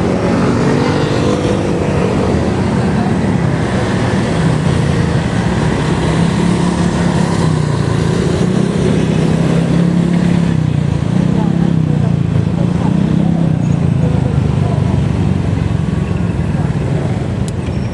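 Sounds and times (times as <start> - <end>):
road and wind noise: 0.0 - 17.9
vehicle engine hum: 0.0 - 17.9.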